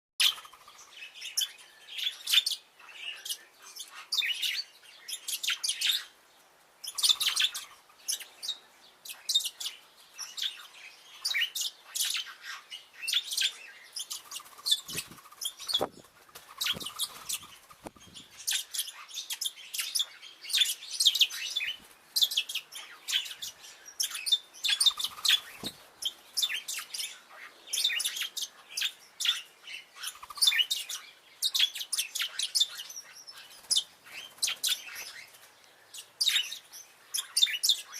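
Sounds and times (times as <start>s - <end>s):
parrots chirping and twittering: 0.2s - 6.2s, 6.8s - 37.9s.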